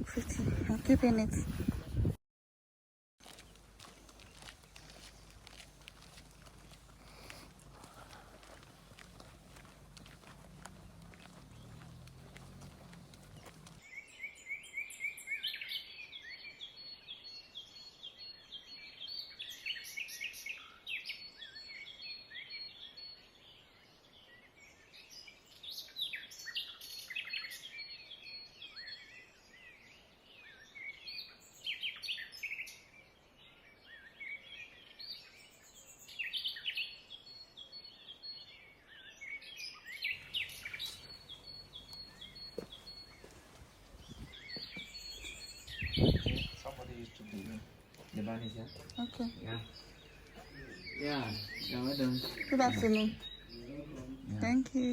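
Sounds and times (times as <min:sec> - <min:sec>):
birds chirping and singing: 0:00.0 - 0:02.1, 0:06.6 - 0:54.9.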